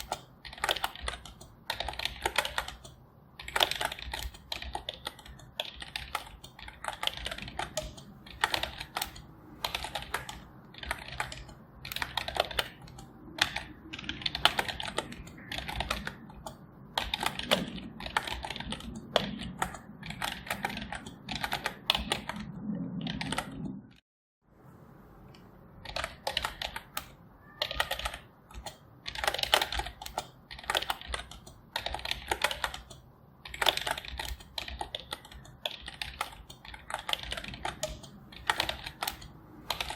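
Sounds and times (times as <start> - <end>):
typing on a keyboard: 0.0 - 24.0, 25.8 - 39.9.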